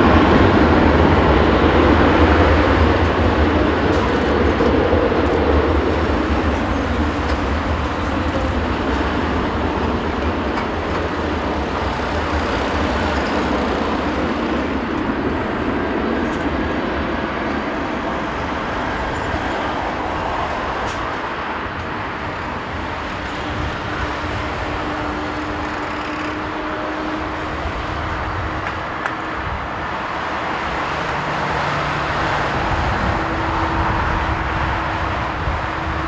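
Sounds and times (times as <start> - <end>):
jet engines roaring at take-off: 0.0 - 36.0.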